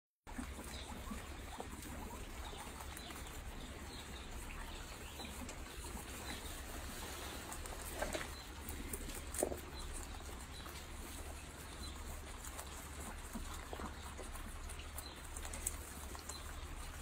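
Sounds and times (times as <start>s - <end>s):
guinea pigs squeaking: 0.2s - 17.0s
guinea pig call: 0.3s - 17.0s.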